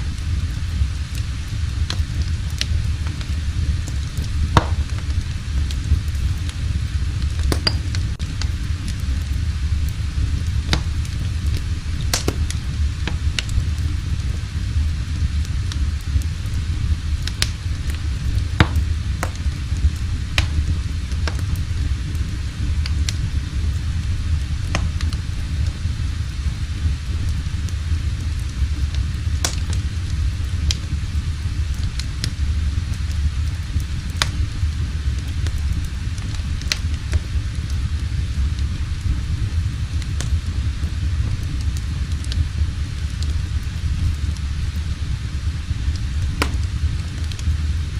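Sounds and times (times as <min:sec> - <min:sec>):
fire crackling and popping: 0:00.0 - 0:47.9
low fire rumble: 0:00.0 - 0:47.9.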